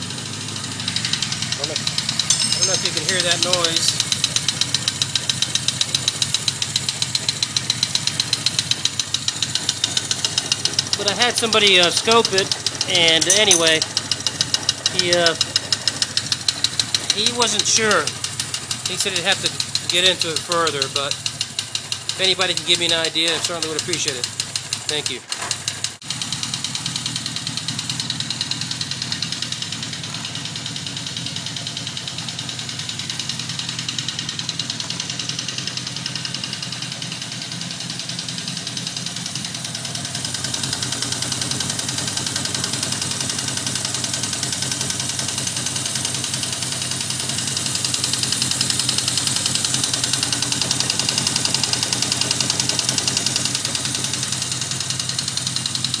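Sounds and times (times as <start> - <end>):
motorcycle engine knocking: 0.1 - 56.0.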